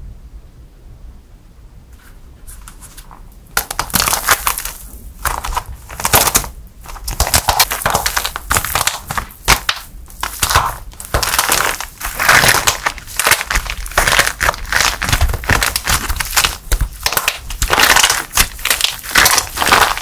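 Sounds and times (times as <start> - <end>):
plaster cracking and crumbling: 2.7 - 20.0.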